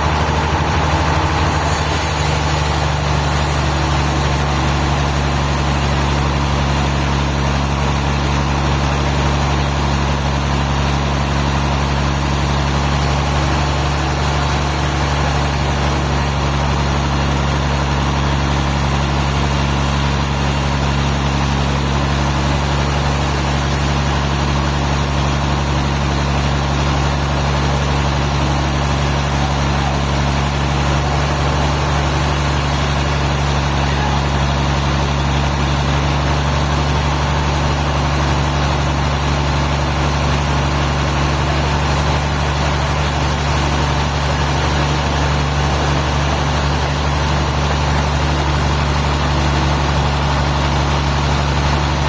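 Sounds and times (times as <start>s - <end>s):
sawmill engine droning: 0.0s - 52.0s.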